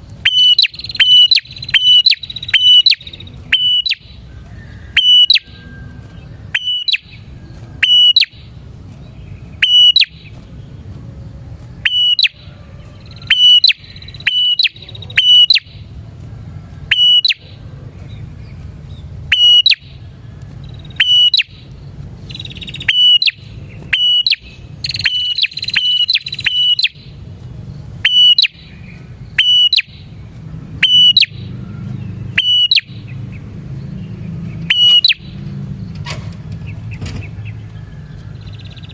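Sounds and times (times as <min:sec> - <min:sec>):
bird high sharp chirps: 0:00.2 - 0:10.9, 0:11.7 - 0:16.0, 0:16.9 - 0:38.9.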